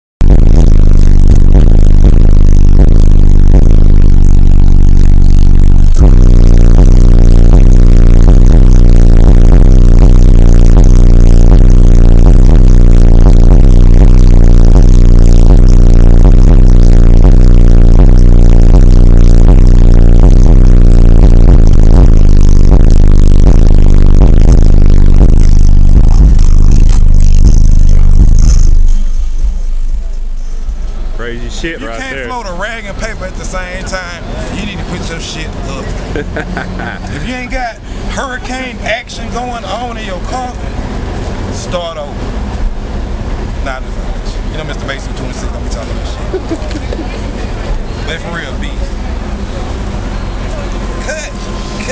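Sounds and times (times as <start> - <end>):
bass-heavy music through subwoofers: 0.0 - 51.9.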